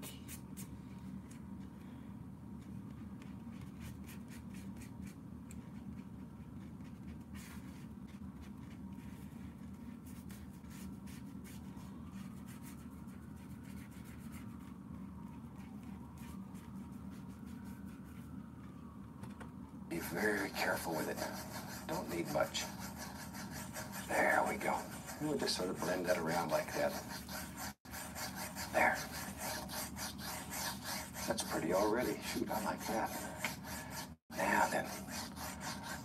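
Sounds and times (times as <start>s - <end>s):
steady low hum: 0.0s - 36.0s
paintbrush scratching on paper: 2.6s - 18.4s, 19.9s - 36.0s.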